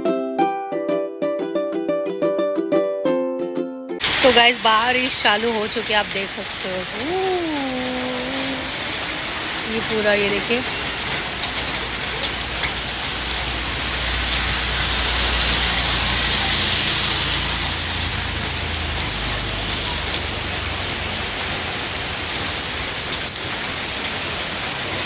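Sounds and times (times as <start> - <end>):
heavy rain on wet road: 4.0 - 25.0.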